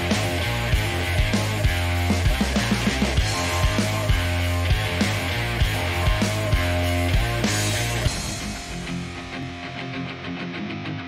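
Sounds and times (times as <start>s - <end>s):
background guitar music: 0.0s - 11.0s.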